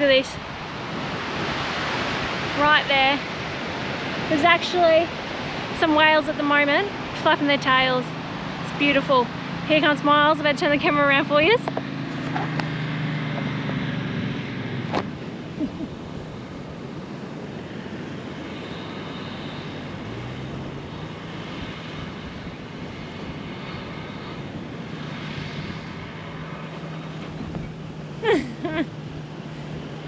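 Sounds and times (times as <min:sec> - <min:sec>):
car engine labouring: 0:00.0 - 0:30.0.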